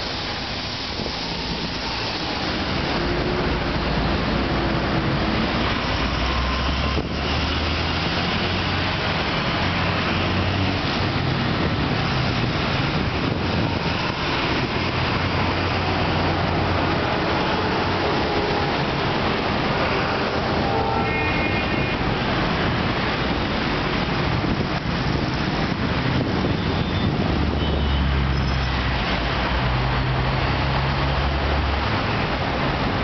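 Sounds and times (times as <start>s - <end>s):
street traffic: 0.0s - 33.0s.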